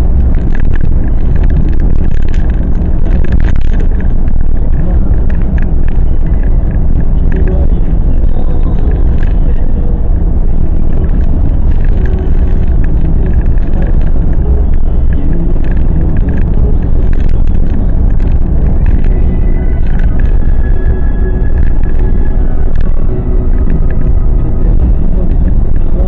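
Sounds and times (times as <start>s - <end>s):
car cruising road rumble: 0.0s - 26.0s.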